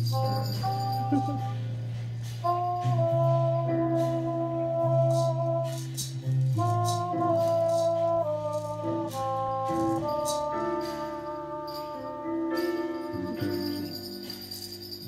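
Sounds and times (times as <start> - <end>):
maraca shaking: 0.0 - 3.1, 5.0 - 15.0
music with held notes and bass: 0.0 - 15.0.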